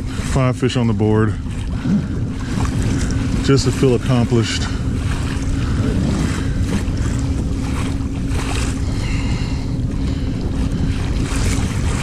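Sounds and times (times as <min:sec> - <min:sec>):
steady low hum: 0:00.0 - 0:12.0
water slapping against kayak: 0:00.0 - 0:12.0
wind buffeting microphone: 0:00.0 - 0:12.0.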